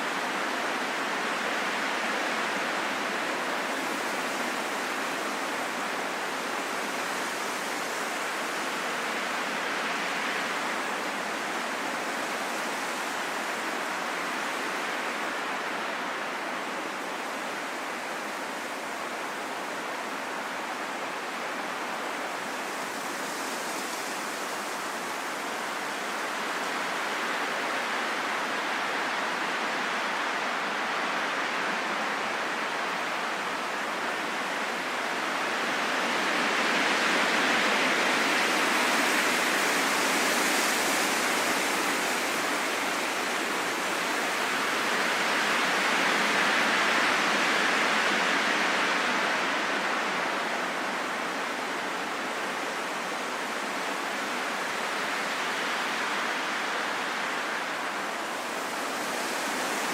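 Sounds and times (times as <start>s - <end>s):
wind blowing in gusts: 0.0s - 59.9s.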